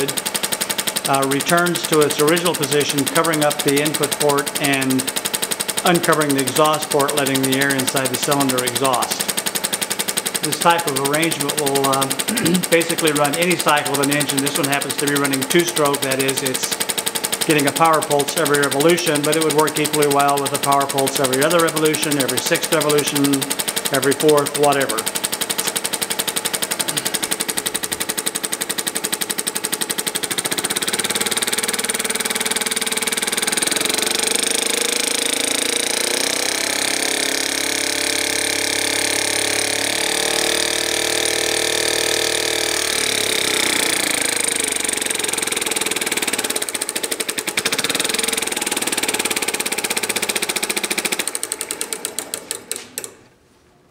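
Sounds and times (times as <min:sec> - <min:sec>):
model engine chuffing: 0:00.0 - 0:53.2.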